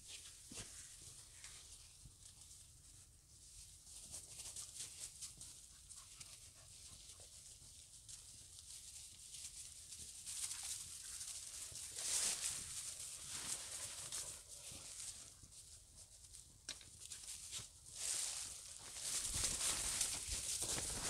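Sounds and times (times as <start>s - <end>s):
dog sniffing and snuffling: 0.4s - 8.8s, 10.2s - 16.3s, 17.3s - 21.0s.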